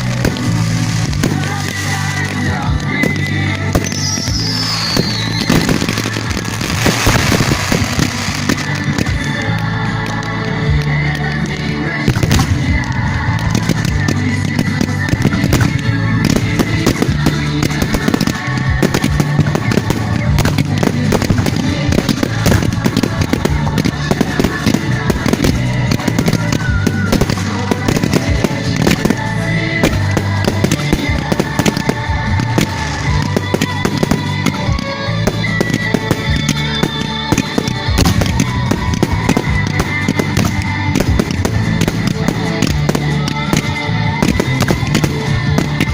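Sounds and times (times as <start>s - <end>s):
fireworks crackling and banging: 0.0s - 45.9s
music with bass line: 0.0s - 45.9s.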